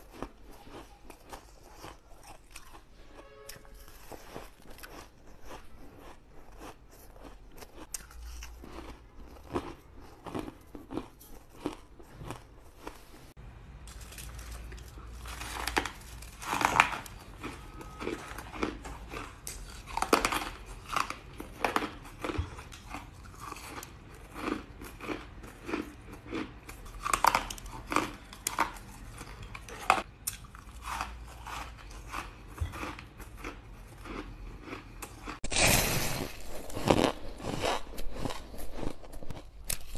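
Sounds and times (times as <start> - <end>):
crunching and chewing ice: 0.0 - 39.9.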